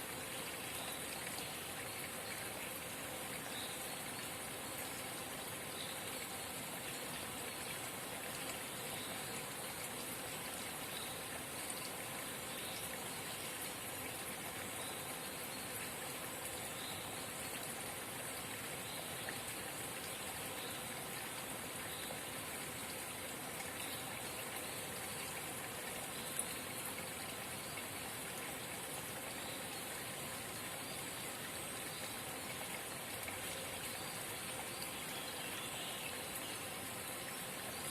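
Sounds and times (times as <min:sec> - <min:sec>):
spring water babbling: 0:00.0 - 0:37.9.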